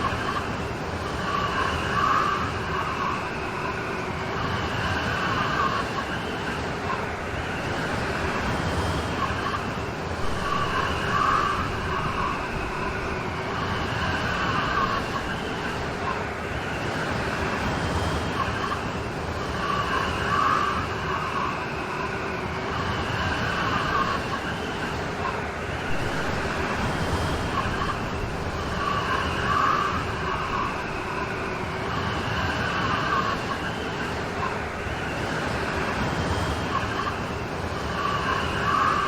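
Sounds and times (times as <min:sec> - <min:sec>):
continuous hiss of rain: 0:00.0 - 0:39.0.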